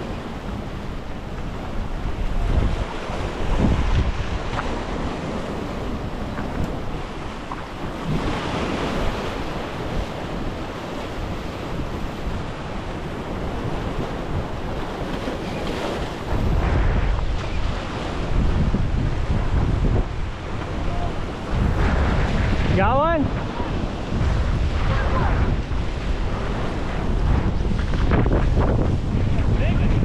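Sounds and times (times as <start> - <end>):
waves breaking over rocks: 0.0 - 30.0
wind buffeting microphone: 0.0 - 30.0.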